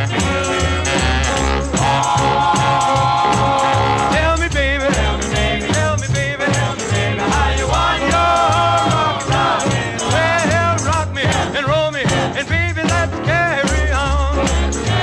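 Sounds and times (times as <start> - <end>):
bass: 0.0 - 15.0
shaker percussion: 0.0 - 15.0
upbeat music with steady beat: 0.0 - 15.0.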